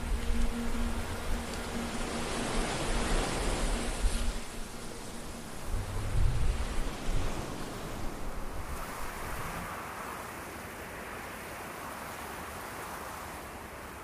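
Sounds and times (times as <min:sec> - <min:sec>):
waves washing over rocks: 0:00.0 - 0:14.0.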